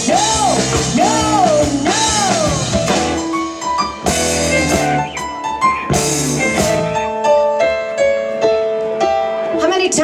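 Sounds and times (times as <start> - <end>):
live rock band playing: 0.0 - 9.7.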